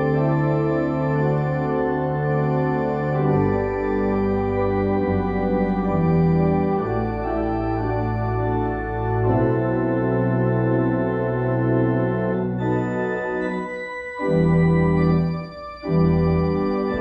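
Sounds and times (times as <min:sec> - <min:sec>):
church organ chords: 0:00.0 - 0:17.0.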